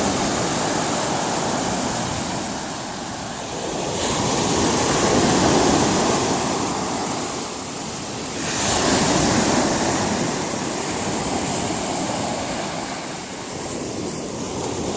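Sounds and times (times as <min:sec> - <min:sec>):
strong wind: 0:00.0 - 0:14.9
waves crashing: 0:00.0 - 0:14.9.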